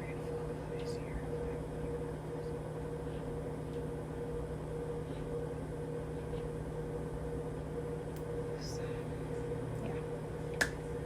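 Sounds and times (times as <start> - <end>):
steady two-tone hum: 0.0 - 11.0.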